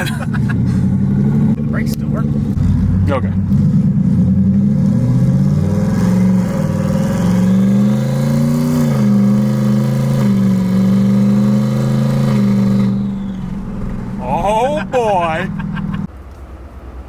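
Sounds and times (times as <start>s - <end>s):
car engine at light throttle: 0.0s - 17.0s.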